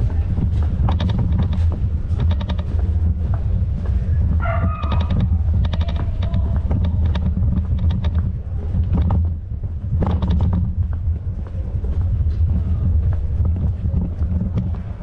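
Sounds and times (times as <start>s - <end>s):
bike ride low rumble: 0.0s - 15.0s
light clicks and rattles: 0.0s - 15.0s.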